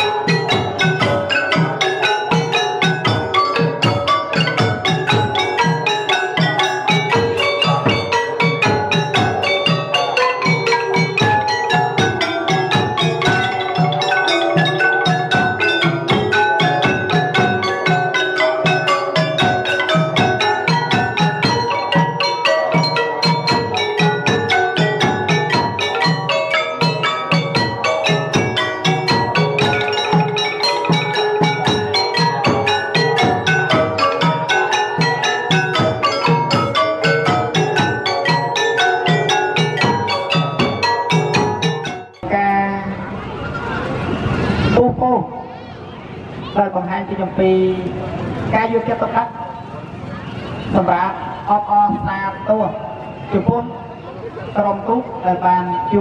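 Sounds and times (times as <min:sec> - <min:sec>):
mallet percussion music: 0:00.0 - 0:45.6, 0:50.2 - 0:56.0.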